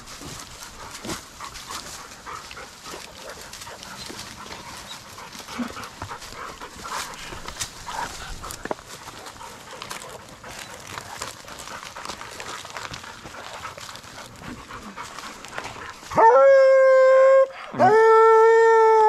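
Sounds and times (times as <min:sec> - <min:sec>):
hounds scuffling: 0:00.0 - 0:16.6
rustling in leaves: 0:00.0 - 0:17.4.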